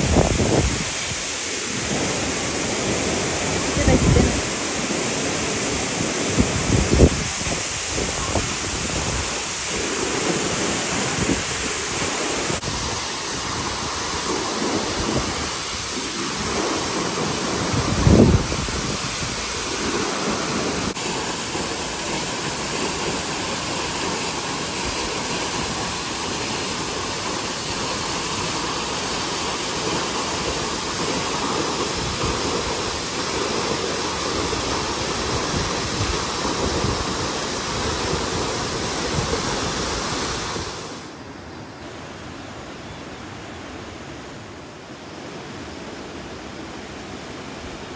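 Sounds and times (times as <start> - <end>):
waterfall: 0.0 - 47.9.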